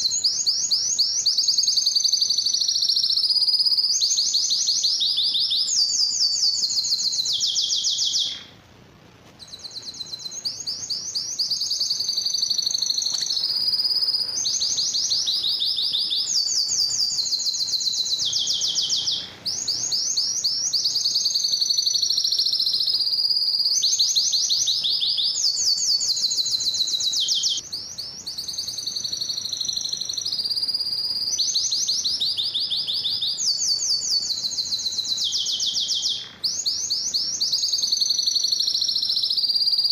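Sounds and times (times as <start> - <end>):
canary singing fast trills: 0.0 - 8.6, 9.4 - 39.9.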